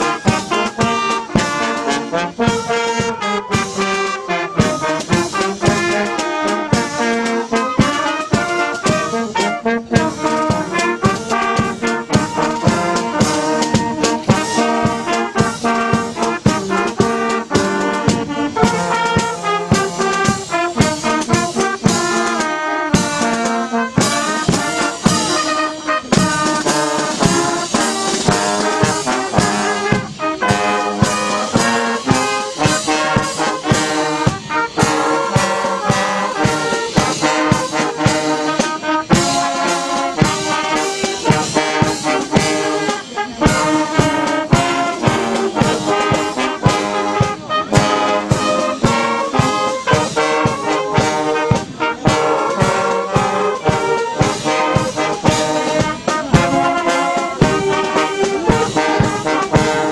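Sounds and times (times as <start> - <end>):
brass band playing: 0.0 - 59.9
flute: 0.0 - 59.9.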